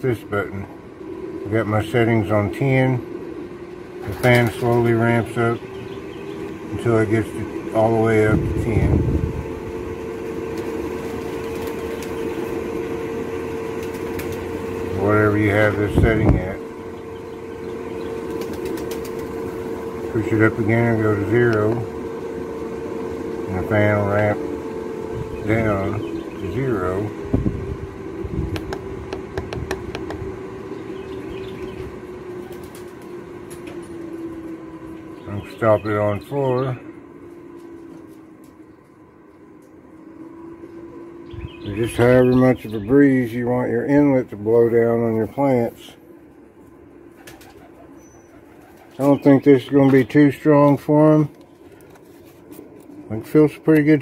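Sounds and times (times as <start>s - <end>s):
duct fan humming: 0.0s - 54.0s.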